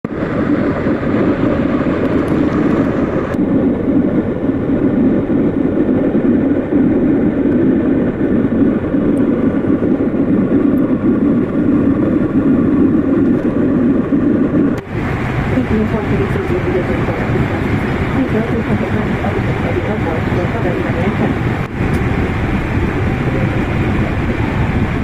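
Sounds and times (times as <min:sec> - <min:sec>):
aircraft cabin engine drone: 0:00.0 - 0:25.0.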